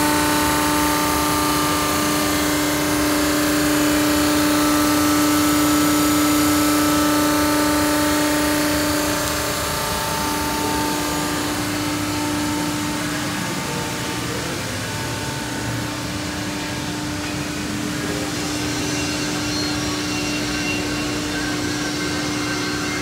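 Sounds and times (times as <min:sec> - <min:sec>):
machine motor hum: 0:00.0 - 0:23.0
steady machine tones: 0:00.0 - 0:23.0.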